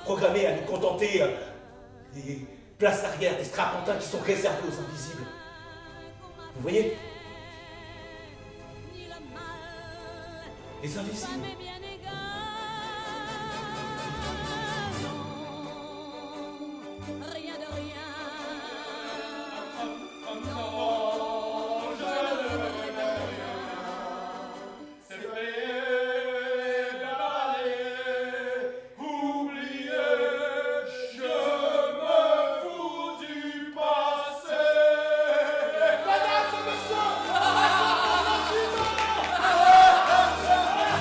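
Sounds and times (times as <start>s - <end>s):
operatic choral singing: 0.0s - 41.0s.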